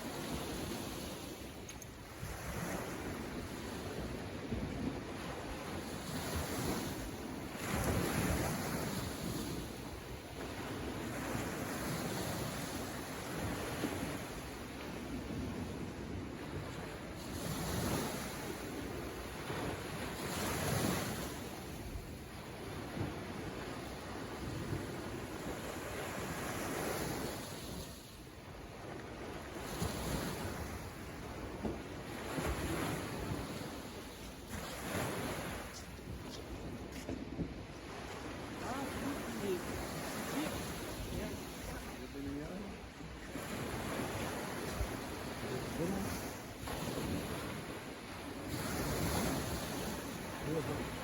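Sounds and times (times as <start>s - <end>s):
sea waves washing onto shore: 0.0s - 51.0s
wind buffeting microphone: 0.0s - 51.0s.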